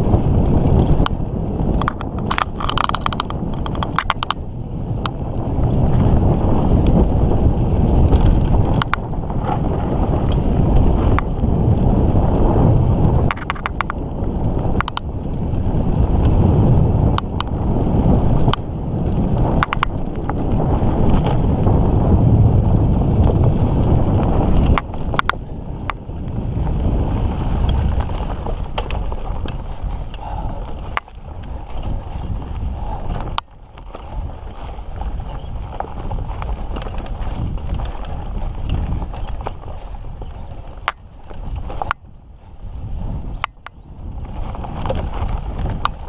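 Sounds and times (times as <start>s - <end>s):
bike knocking and rattling: 0.0s - 46.0s
bike tyres rumbling on dirt: 0.0s - 46.0s
wind on microphone: 0.0s - 46.0s.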